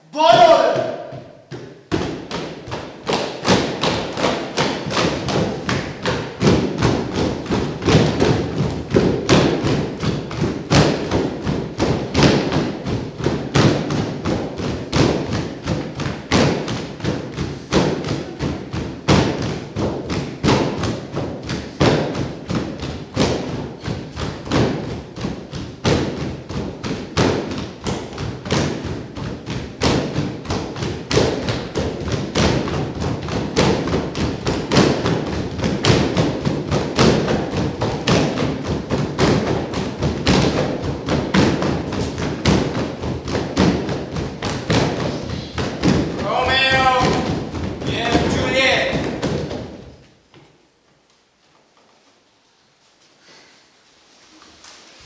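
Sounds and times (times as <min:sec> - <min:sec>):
thuds on hollow wooden stage: 0:00.2 - 0:50.0.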